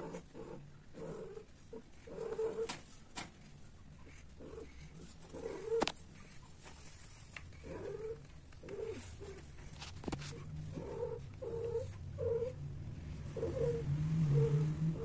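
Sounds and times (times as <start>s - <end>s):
cats moaning: 0.0s - 2.9s, 3.9s - 6.4s, 7.5s - 15.0s.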